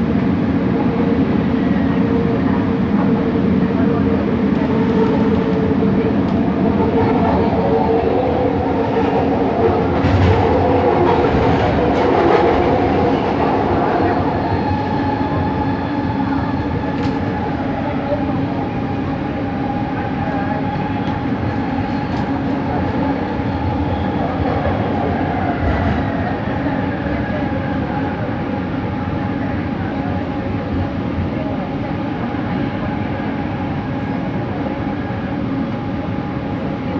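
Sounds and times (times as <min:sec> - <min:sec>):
train rail running noise: 0:00.0 - 0:36.9.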